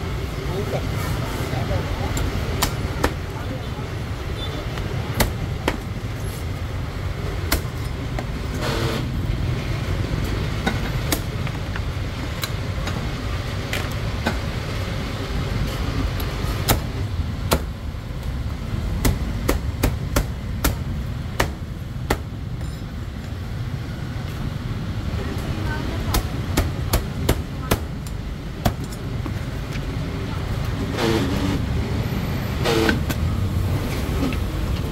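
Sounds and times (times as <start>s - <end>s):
street traffic rumble: 0.0s - 34.9s.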